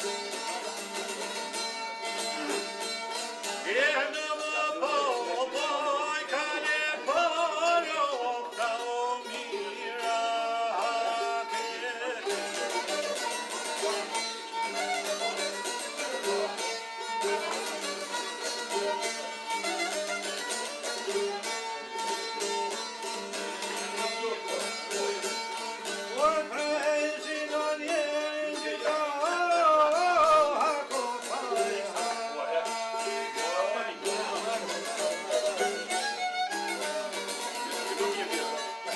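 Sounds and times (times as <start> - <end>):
folk music on string instruments: 0.0 - 38.9.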